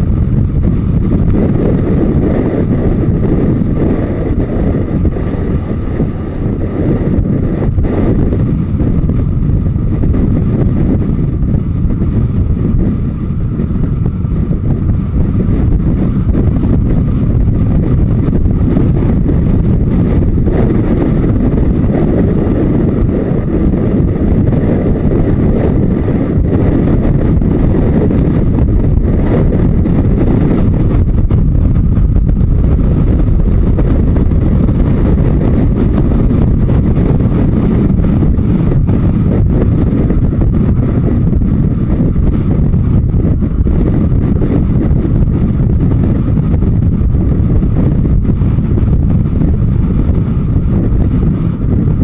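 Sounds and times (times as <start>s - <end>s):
motorcycle engine running: 0.0s - 52.0s
wind rushing on microphone: 0.0s - 52.0s.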